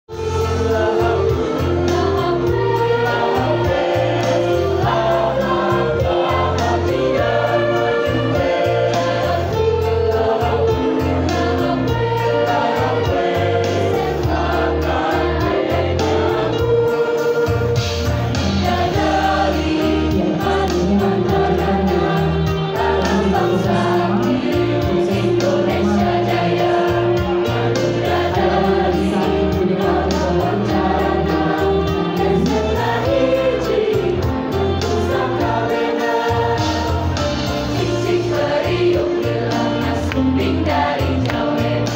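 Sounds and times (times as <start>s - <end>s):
choir singing through microphones: 0.1s - 41.9s.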